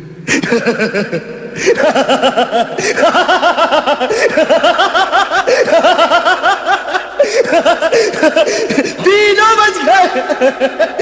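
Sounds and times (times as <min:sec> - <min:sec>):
people laughing: 0:00.3 - 0:11.0.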